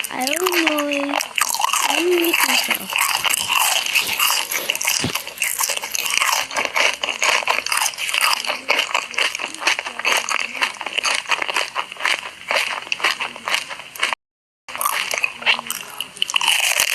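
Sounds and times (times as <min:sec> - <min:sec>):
crisp crunching and chewing: 0:00.0 - 0:16.9.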